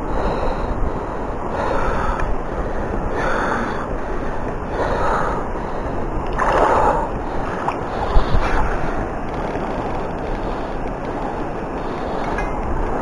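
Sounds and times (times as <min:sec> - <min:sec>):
flowing river water: 0:00.0 - 0:13.0
wind on microphone: 0:00.0 - 0:13.0.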